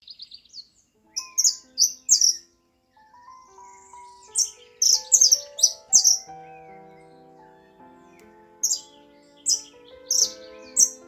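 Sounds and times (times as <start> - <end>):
songbird chirping: 0.0 - 11.0
soft music with held notes: 0.1 - 11.0.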